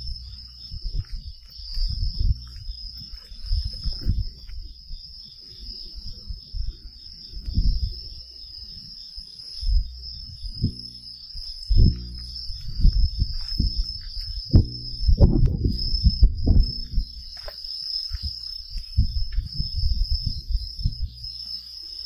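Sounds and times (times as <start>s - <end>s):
insects chirring: 0.0s - 22.0s
pulsing insect trill: 0.0s - 22.0s.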